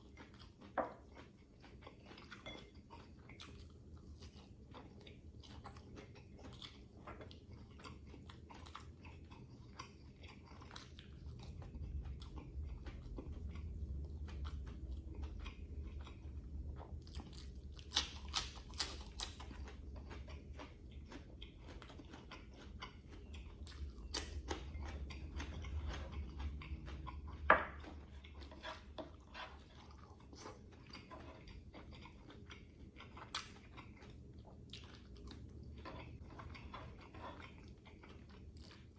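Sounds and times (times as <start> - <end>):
close-up chewing and biting: 0.0 - 38.9.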